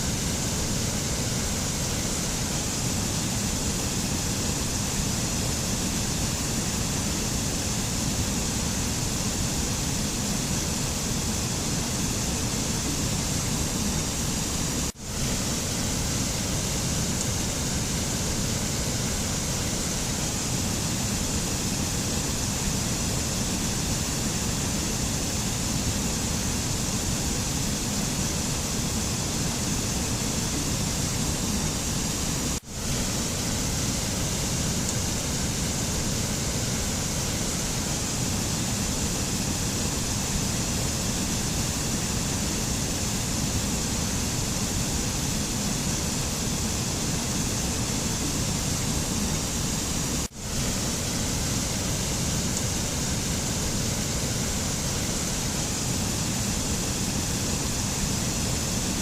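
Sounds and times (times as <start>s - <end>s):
steady rushing nature ambience: 0.0s - 59.0s.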